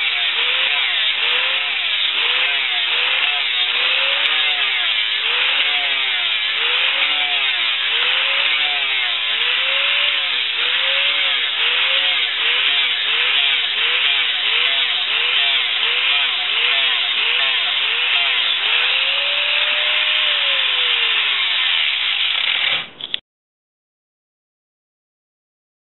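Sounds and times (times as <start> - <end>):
angle grinder sanding wood: 0.0 - 23.0.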